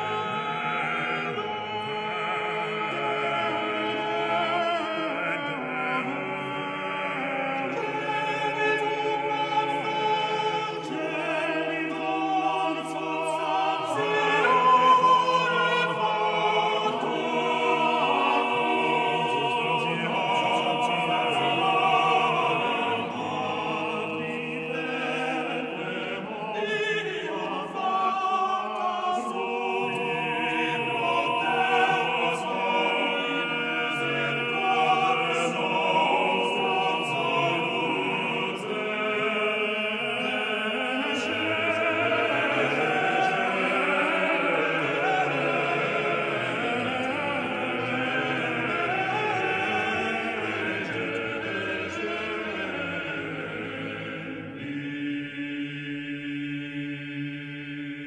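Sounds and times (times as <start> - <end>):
operatic choral singing: 0.0 - 58.0.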